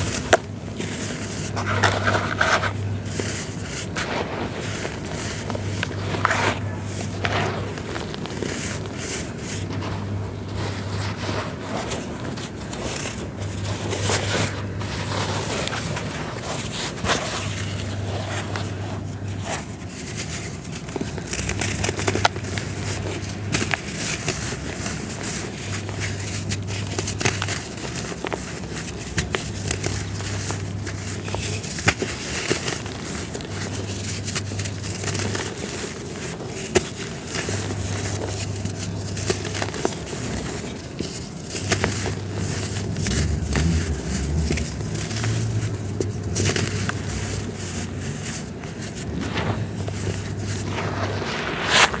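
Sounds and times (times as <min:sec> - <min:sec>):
dry material crumbling and crackling: 0:00.0 - 0:52.0.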